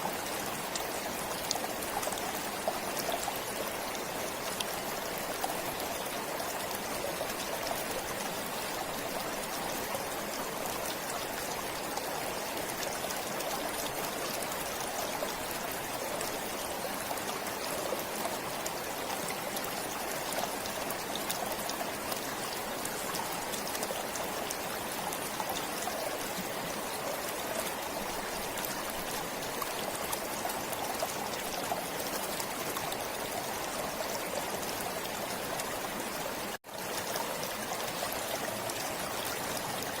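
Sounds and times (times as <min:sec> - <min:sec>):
stream flowing and trickling: 0:00.0 - 0:40.0.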